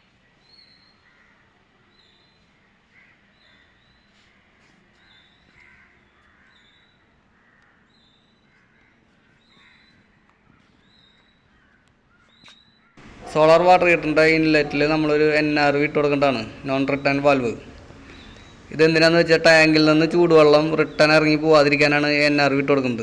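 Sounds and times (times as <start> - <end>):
faint high bird calls: 0.0 - 19.3.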